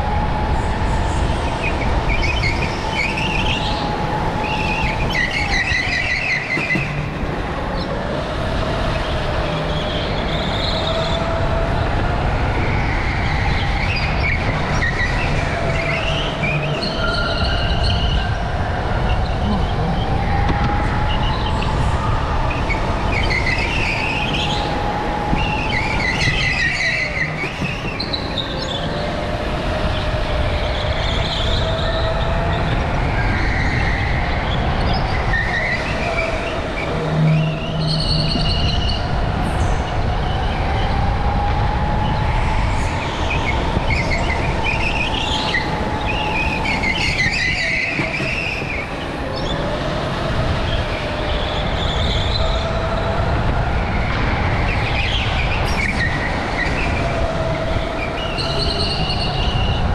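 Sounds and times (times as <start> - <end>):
go-kart motor whine: 1.1 - 59.9.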